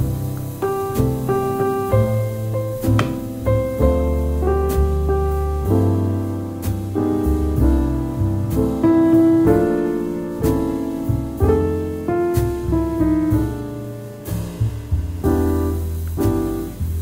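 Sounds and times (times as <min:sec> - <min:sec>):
low bass line: 0:00.0 - 0:17.0
piano chords: 0:00.0 - 0:17.0.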